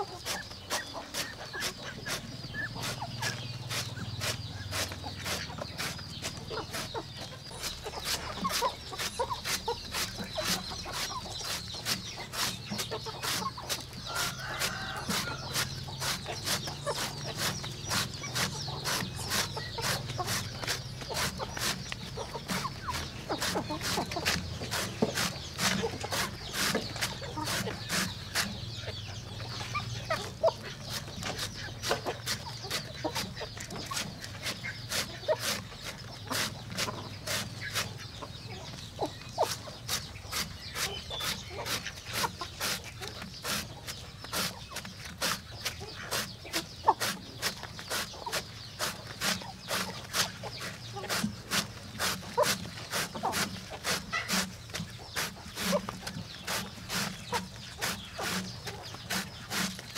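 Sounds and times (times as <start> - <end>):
hens clucking: 0.0 - 59.9.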